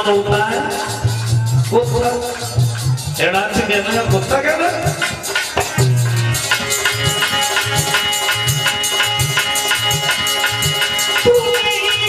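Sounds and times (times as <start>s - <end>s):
shaker-like rattling percussion: 0.0s - 12.0s
steady drum beat: 0.0s - 12.0s.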